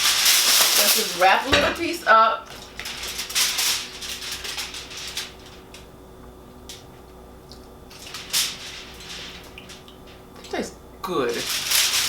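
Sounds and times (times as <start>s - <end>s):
food wrapping crinkling: 0.0s - 5.9s, 7.6s - 12.0s.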